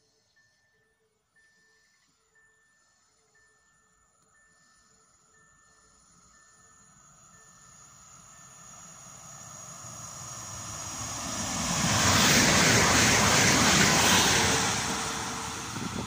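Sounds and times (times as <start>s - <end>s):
electric train passing: 0.4s - 16.0s.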